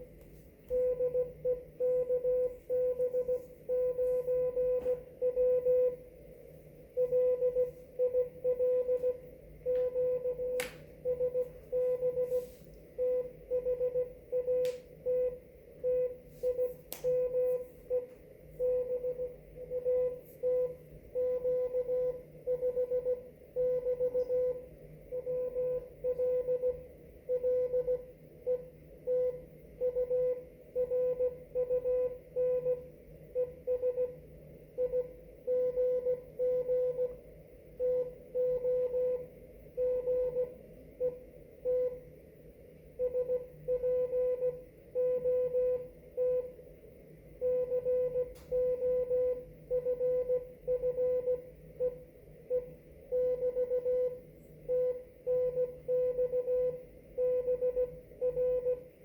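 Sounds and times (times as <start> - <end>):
morse code beeps: 0.7 - 6.1, 6.9 - 34.2, 34.8 - 37.2, 37.8 - 42.1, 43.0 - 46.6, 47.4 - 58.9.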